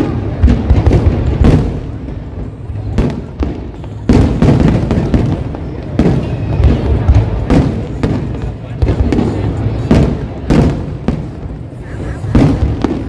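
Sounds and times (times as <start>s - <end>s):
sharp firework cracks: 0.0s - 2.2s, 2.9s - 11.4s
firework booms: 0.0s - 13.0s.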